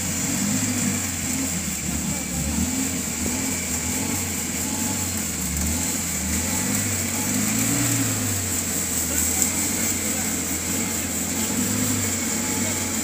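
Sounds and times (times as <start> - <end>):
suv engine working under load: 0.0 - 13.0.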